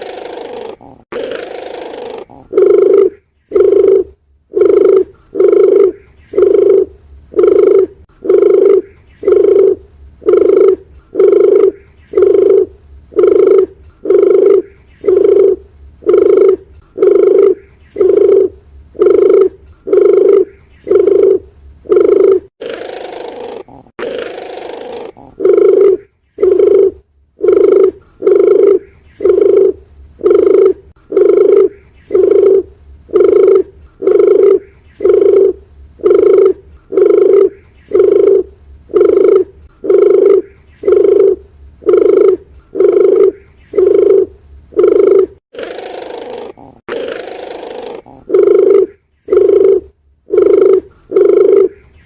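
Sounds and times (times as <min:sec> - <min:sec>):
dove cooing: 0:00.0 - 0:52.0
soft rough bird call: 0:00.0 - 0:52.0.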